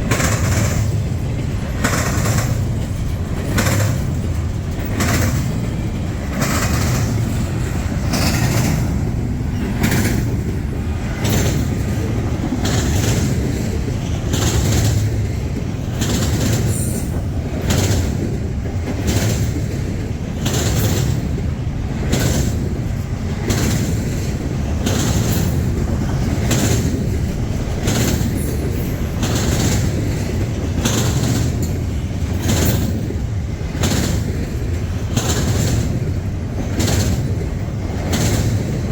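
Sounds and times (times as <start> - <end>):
freight train wheels rumbling: 0.0 - 38.9
wheels clickety-clack over joints: 0.0 - 38.9.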